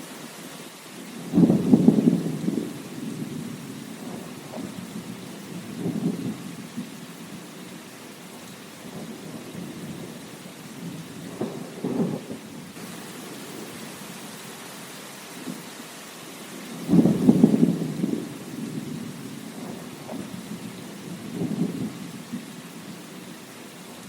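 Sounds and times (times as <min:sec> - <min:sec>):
steady rain: 0:00.0 - 0:24.0
thunder rumbling: 0:01.1 - 0:14.6, 0:16.5 - 0:24.0.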